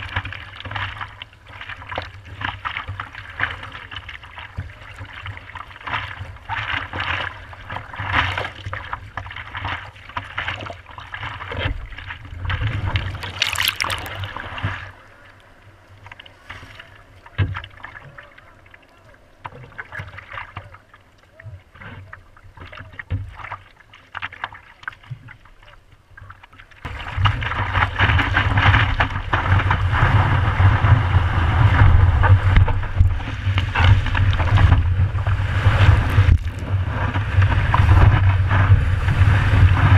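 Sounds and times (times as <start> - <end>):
rush of water and wind: 0.0 - 26.1, 26.8 - 39.9
water lapping and splashing: 0.0 - 39.9.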